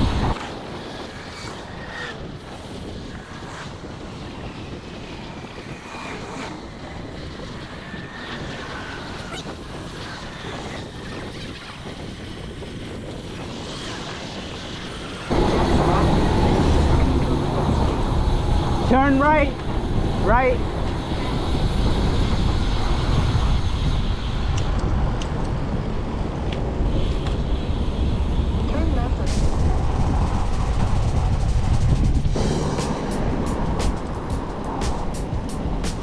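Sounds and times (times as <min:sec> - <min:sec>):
low wind buffeting: 0:00.0 - 0:36.0
road noise: 0:00.0 - 0:36.0
wind rushing on microphone: 0:00.0 - 0:36.0.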